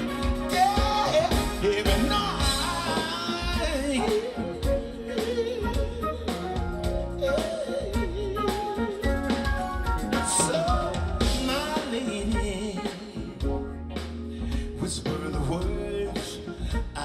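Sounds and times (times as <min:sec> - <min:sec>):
live funk band playing: 0:00.0 - 0:17.0
wordless vocal ad-lib: 0:00.0 - 0:17.0.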